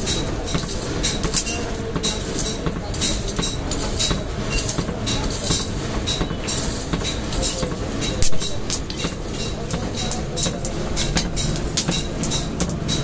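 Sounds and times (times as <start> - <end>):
forge blower rumble: 0.0 - 13.0
metal rod scraping coals: 0.0 - 13.0.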